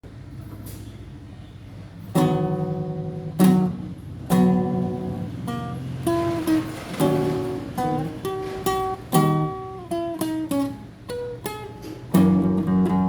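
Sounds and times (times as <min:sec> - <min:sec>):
classical guitar playing: 0:02.1 - 0:13.0.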